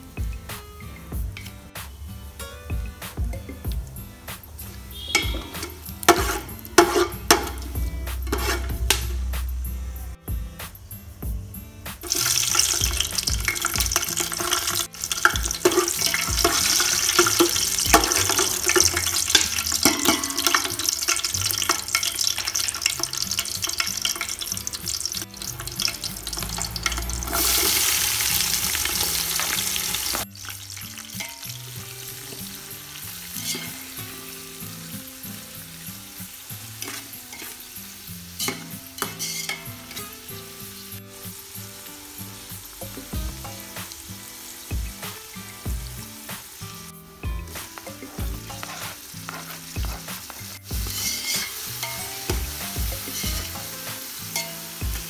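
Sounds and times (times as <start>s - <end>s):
hot oil sizzling and crackling: 0.0s - 9.9s, 10.6s - 55.0s.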